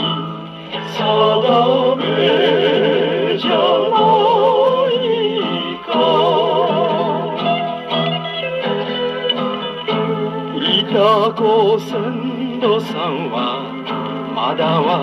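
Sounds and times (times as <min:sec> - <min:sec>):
old gramophone record band music: 0:00.0 - 0:15.0.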